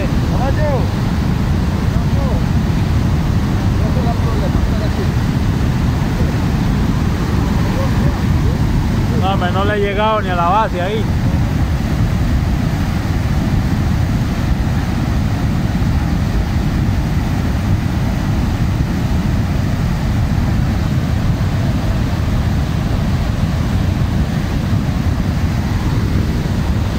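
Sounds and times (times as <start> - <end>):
mudflow rumbling: 0.0 - 26.9.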